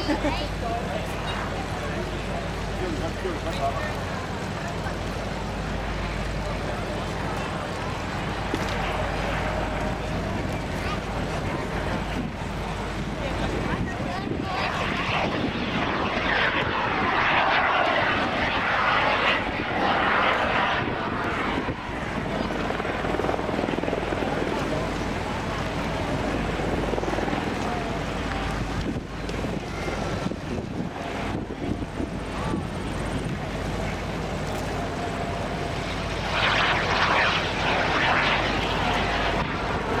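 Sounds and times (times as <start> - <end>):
small jet engine whine: 0.0 - 40.0.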